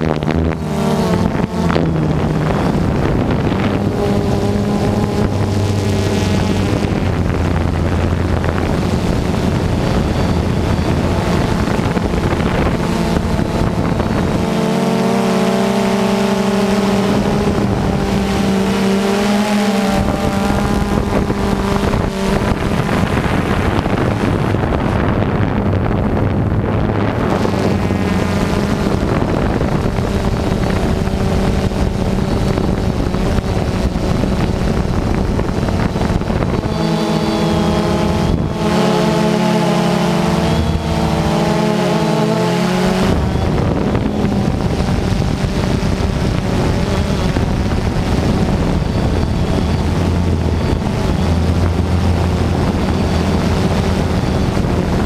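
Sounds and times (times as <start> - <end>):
drone propellers buzzing: 0.0 - 55.0
wind over microphone: 0.0 - 55.0.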